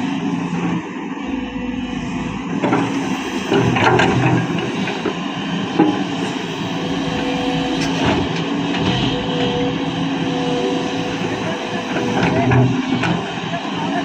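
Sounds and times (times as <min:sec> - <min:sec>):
diesel engine under load: 0:01.1 - 0:14.0
steady whine: 0:01.1 - 0:14.0.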